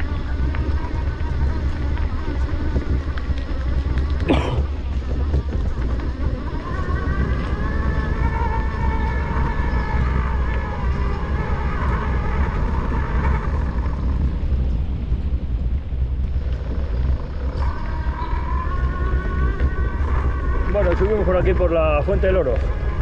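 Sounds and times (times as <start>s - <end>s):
electric bike motor whining: 0.0s - 23.0s
tyre rumble: 0.0s - 23.0s
wind on microphone: 0.0s - 23.0s.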